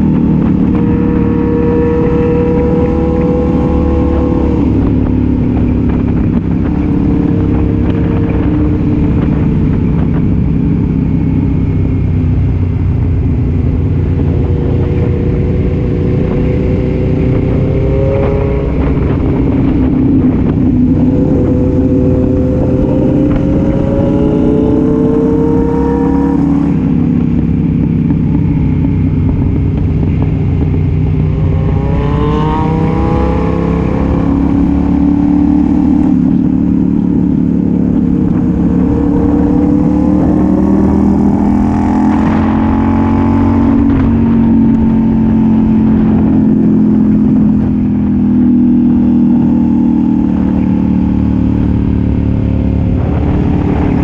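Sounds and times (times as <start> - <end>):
wind rushing: 0.0 - 50.4, 51.3 - 54.0
motorcycle engine revving: 0.0 - 54.0.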